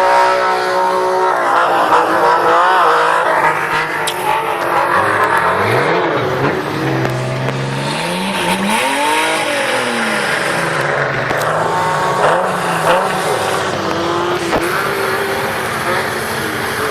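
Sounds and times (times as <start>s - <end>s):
car engine revving hard: 0.0s - 16.9s.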